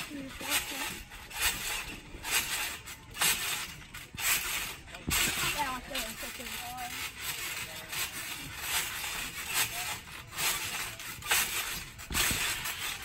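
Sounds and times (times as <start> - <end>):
trampoline springs creaking and thudding: 0.0 - 13.0.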